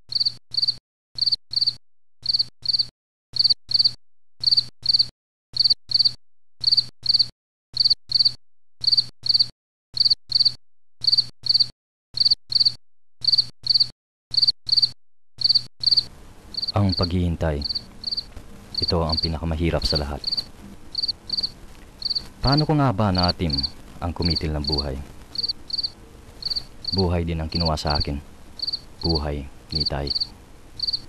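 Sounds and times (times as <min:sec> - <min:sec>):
insect chirping in pairs: 0:00.1 - 0:31.0.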